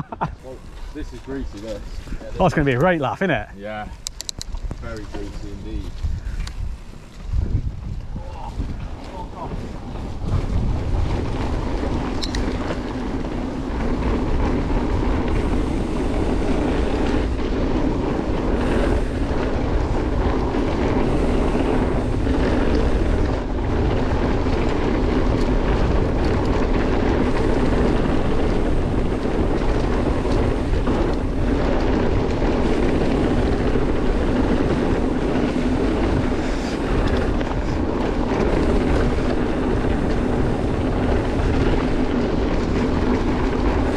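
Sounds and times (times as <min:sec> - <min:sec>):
bike tyres rumbling over dirt: 0:00.0 - 0:43.9
wind on microphone: 0:00.0 - 0:43.9.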